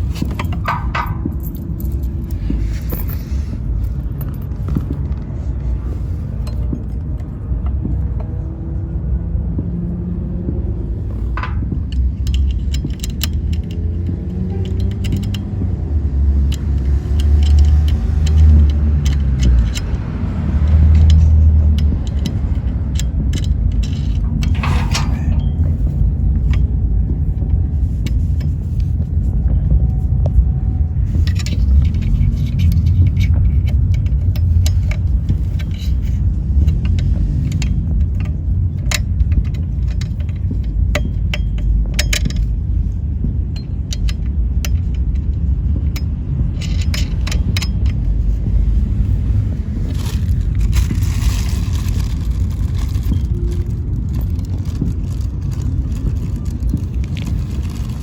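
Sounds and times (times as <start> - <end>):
metal hardware clicks and jingling: 0.0 - 5.3, 10.9 - 29.0, 31.0 - 58.0
steady low rumble: 0.0 - 58.0.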